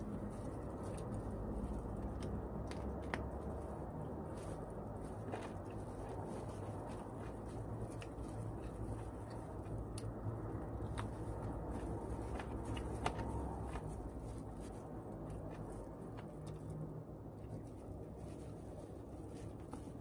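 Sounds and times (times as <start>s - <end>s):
chewing and biting: 0.0s - 20.0s
steady low hum: 0.0s - 20.0s.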